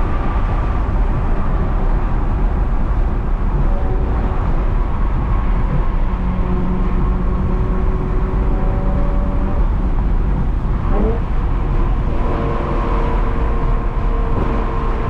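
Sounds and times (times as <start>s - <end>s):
low exhaust drone: 0.0s - 15.0s
road noise: 0.0s - 15.0s.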